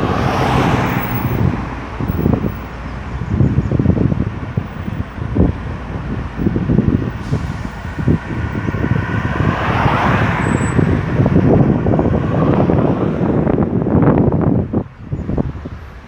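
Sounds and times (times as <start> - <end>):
vehicle passing: 0.0 - 4.5, 5.2 - 13.6
busy highway traffic: 0.0 - 16.0
wind gusts on microphone: 0.0 - 16.0.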